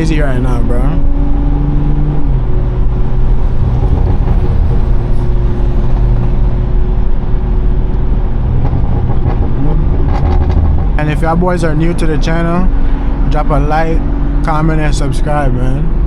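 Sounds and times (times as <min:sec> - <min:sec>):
car engine droning at cruise: 0:00.0 - 0:16.0.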